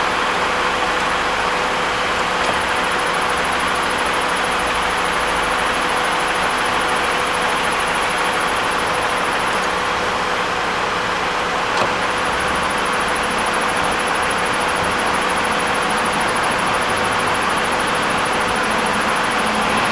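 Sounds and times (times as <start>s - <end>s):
car engine running: 0.0s - 19.9s
high-pitched pulsing engine noise: 0.0s - 19.9s.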